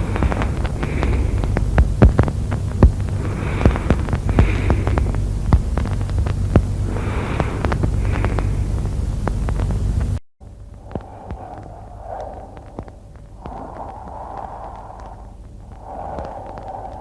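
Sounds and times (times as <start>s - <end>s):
soft breath sounds: 0.0s - 9.1s, 10.5s - 17.0s
steady low hum: 0.0s - 17.0s.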